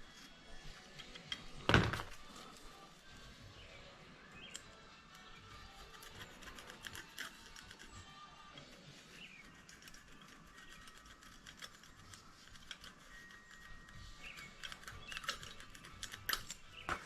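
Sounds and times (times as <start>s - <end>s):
small hand tools clicking and scraping: 0.0s - 2.9s, 4.4s - 16.9s.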